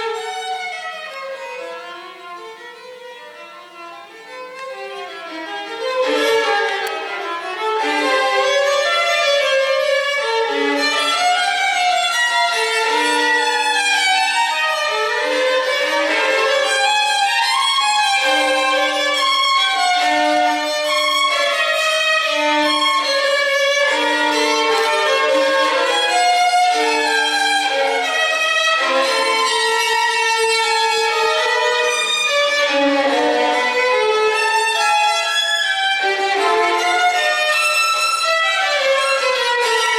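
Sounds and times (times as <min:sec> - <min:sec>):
violin melody: 0:00.0 - 0:39.9.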